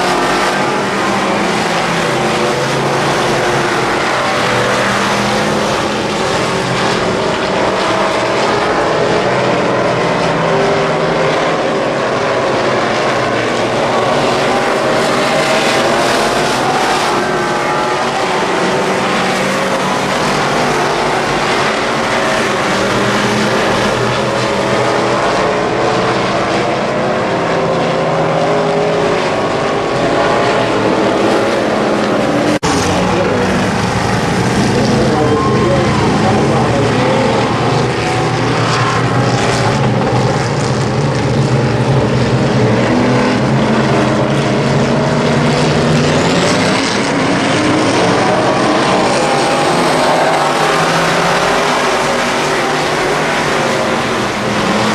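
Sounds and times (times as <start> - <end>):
race car engines running hard: 0.0 - 54.9.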